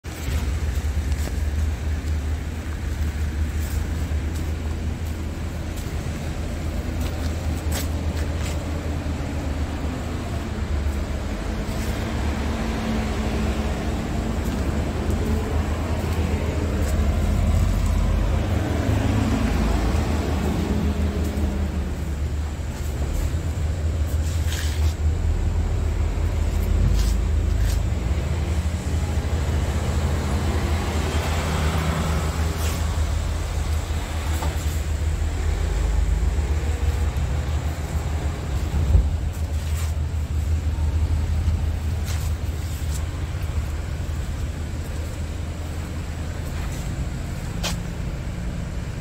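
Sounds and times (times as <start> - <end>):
diesel truck engine idling: 0.1 - 49.0.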